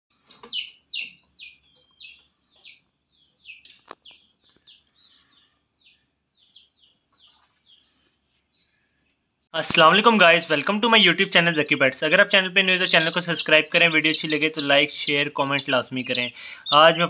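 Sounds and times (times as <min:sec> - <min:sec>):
chicks peeping: 0:00.2 - 0:17.0.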